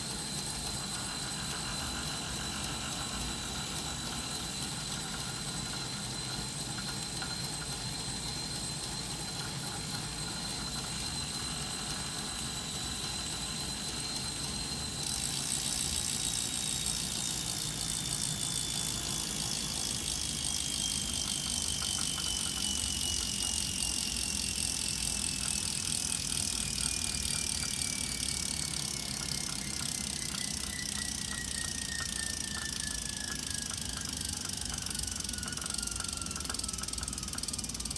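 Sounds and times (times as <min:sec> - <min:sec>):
bike trainer whining: 0:00.0 - 0:37.9.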